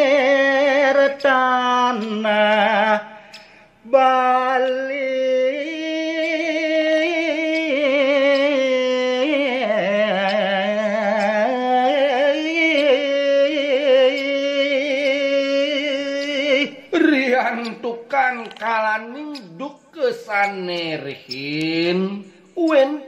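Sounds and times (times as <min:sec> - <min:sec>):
man singing melismatic line: 0:00.0 - 0:23.0.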